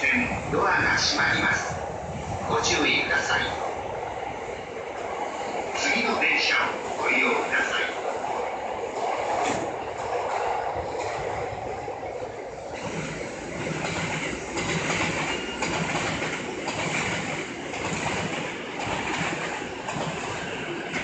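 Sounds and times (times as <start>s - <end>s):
train wheels rolling: 0.0s - 21.0s.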